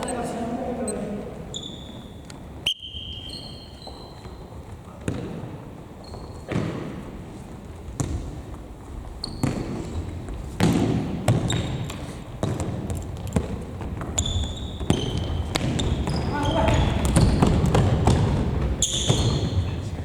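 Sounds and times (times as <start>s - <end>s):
ball kicks echoing in hall: 0.0s - 20.0s
shoes squeaking on floor: 1.4s - 20.0s.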